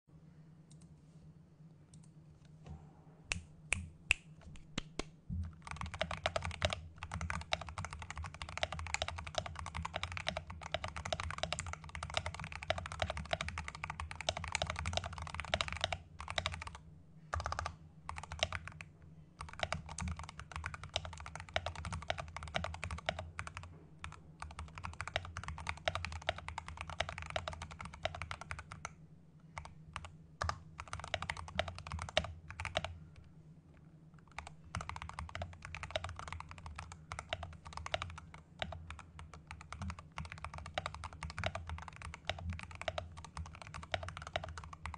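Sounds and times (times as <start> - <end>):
mechanical keyboard typing: 5.4 - 28.9, 29.6 - 32.9, 34.2 - 44.9.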